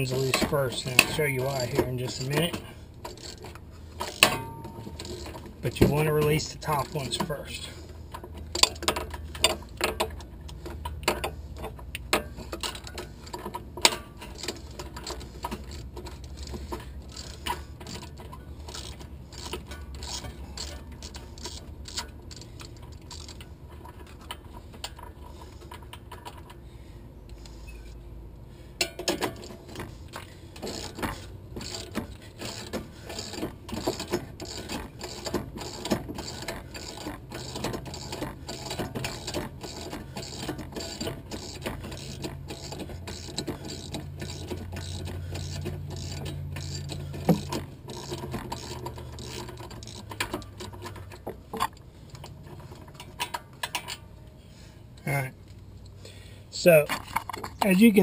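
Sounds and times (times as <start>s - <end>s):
ratchet wrench clicking: 0.0s - 5.5s, 8.1s - 26.4s, 28.8s - 52.3s.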